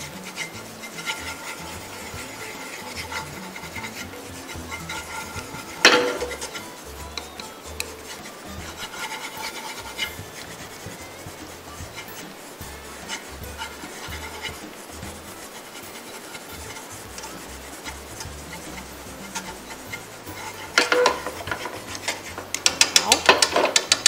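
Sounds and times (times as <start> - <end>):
chopsticks scraping a frying pan: 0.0 - 24.0.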